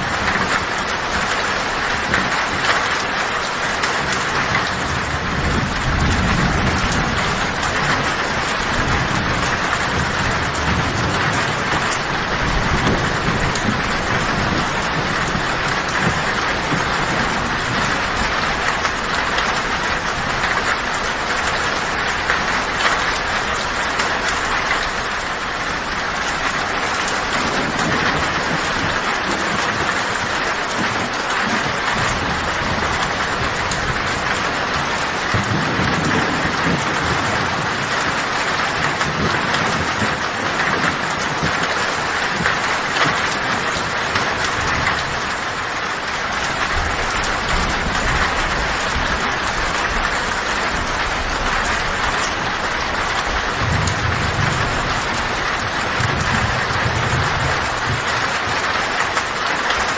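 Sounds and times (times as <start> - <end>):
heavy rain on a tin roof: 0.0 - 59.9
thunder rumbling: 0.0 - 59.9.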